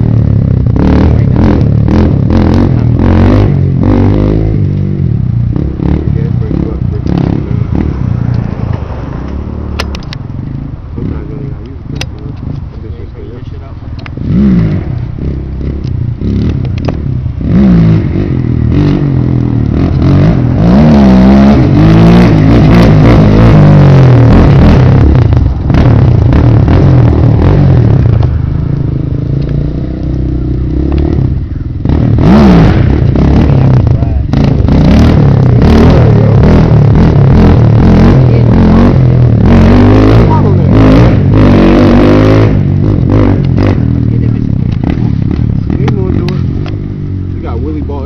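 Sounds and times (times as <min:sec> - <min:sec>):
quad engine revving: 0:00.0 - 0:48.0
steady low rumble: 0:00.0 - 0:48.0.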